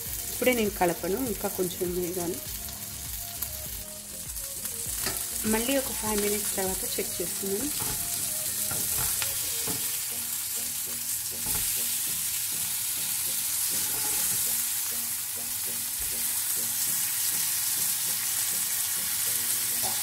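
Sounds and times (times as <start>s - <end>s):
chicken wings sizzling on a griddle: 0.0s - 20.0s.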